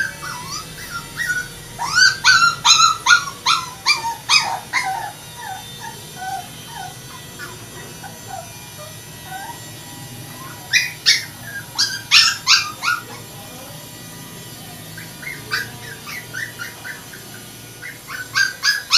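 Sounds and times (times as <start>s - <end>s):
puppies whimpering and squeaking: 0.0s - 18.9s
puppies yipping: 0.0s - 18.9s.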